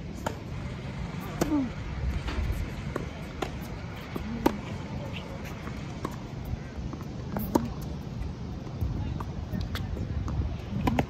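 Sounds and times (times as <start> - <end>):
tennis ball bouncing: 0.0 - 11.0
rackets striking tennis ball: 0.1 - 8.3, 9.6 - 11.0.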